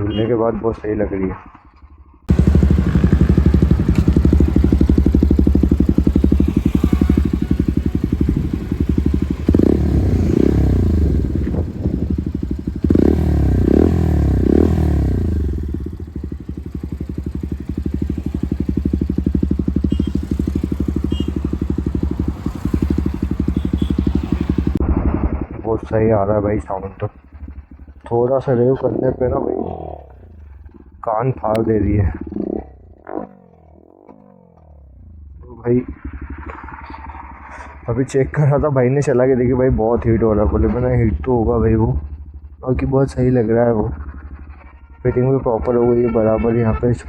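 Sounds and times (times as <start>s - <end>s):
motorcycle engine idling and revving: 1.5s - 47.0s.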